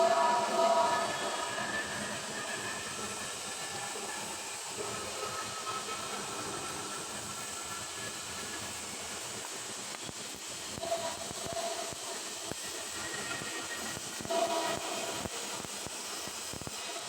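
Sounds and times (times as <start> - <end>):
welding arc sizzling hiss: 0.0 - 17.0.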